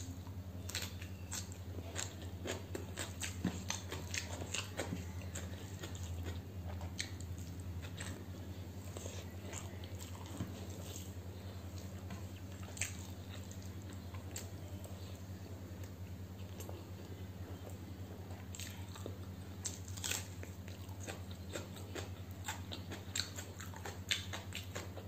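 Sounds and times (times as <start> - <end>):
steady low hum: 0.0 - 25.0
wet chewing and lip-smacking: 0.6 - 15.1, 15.8 - 25.0.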